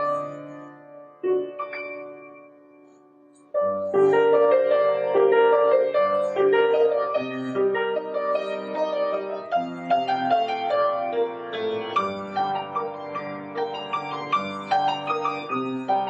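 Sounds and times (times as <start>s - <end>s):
digital piano playing: 0.0s - 16.0s.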